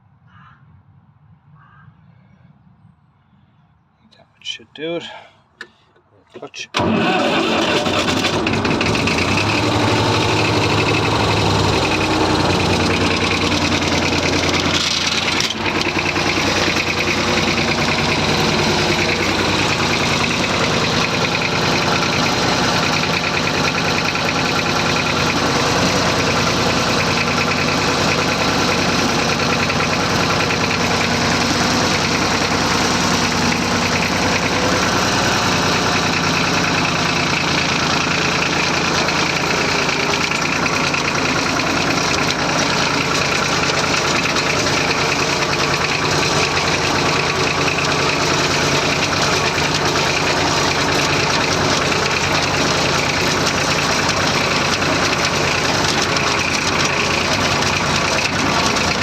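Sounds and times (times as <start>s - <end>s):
tractor diesel engine running: 4.4s - 59.0s.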